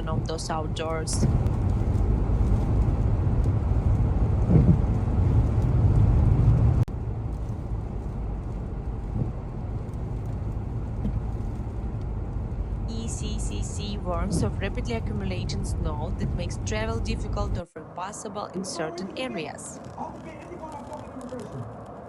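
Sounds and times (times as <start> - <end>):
low rumbling outdoor noise: 0.0 - 22.0.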